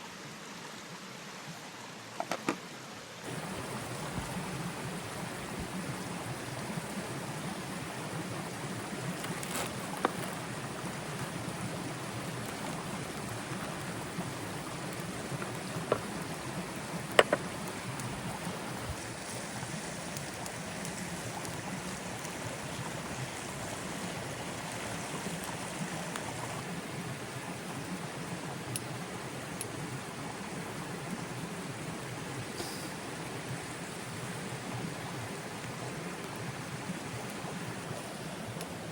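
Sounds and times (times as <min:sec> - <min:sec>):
rain hissing: 0:03.2 - 0:38.9.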